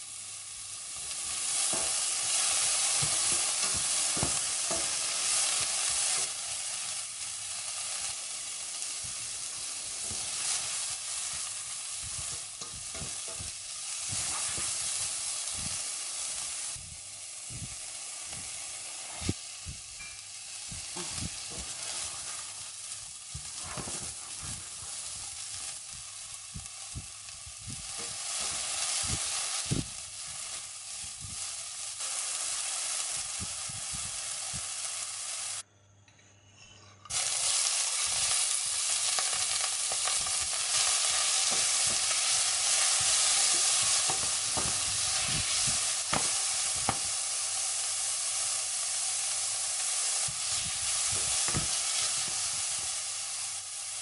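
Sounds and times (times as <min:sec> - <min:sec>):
prawns frying in hot oil: 0:00.0 - 0:35.6, 0:37.1 - 0:54.0
vegetables sizzling in pan: 0:00.0 - 0:35.6, 0:37.1 - 0:54.0.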